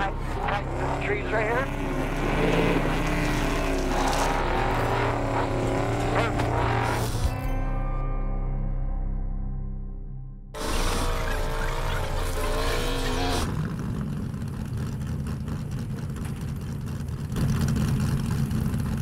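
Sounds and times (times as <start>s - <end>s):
vehicle engine rumble: 0.0s - 7.8s, 10.5s - 19.0s.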